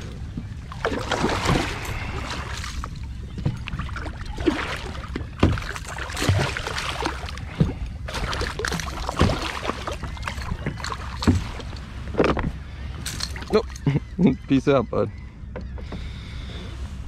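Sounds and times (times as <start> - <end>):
water splashing beside a kayak: 0.0 - 13.9.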